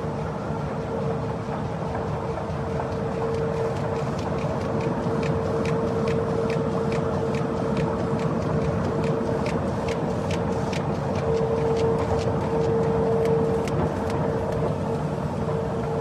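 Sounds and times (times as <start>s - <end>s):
constant machine whine: 0.0s - 16.0s
printing press running: 0.0s - 16.0s.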